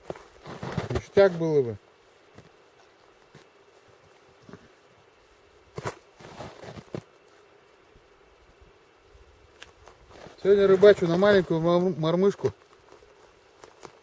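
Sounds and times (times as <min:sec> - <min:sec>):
soft handling rustles and knocks: 0:00.0 - 0:07.5, 0:09.5 - 0:14.0.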